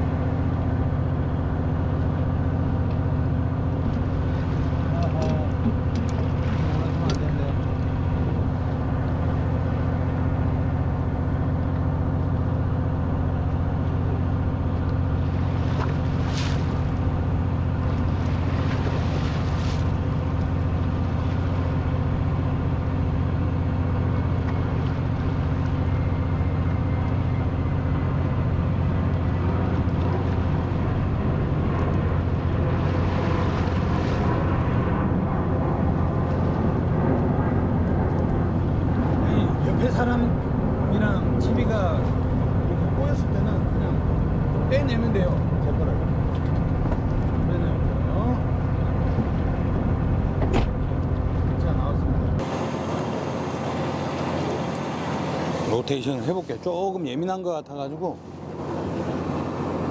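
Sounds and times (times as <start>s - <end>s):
boat motor humming: 0.0s - 59.9s.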